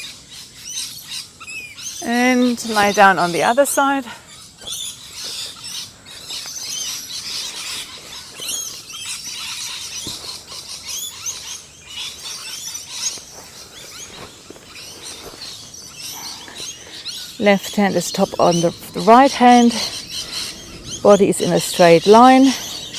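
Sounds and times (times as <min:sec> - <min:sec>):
birds chirping and warbling: 0:00.0 - 0:22.9.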